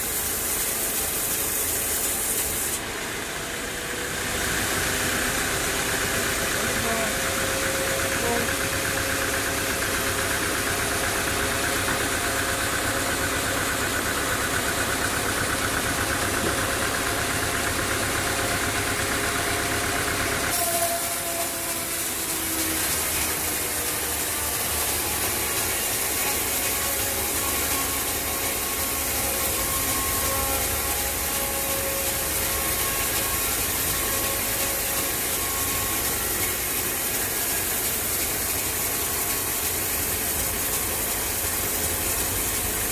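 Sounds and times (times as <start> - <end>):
sawmill machinery running: 0.0 - 42.9
engine drone: 2.4 - 42.9.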